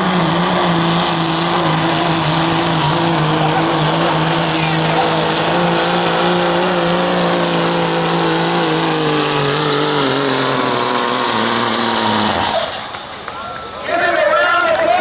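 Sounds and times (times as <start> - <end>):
diesel engine under heavy load: 0.0 - 15.0.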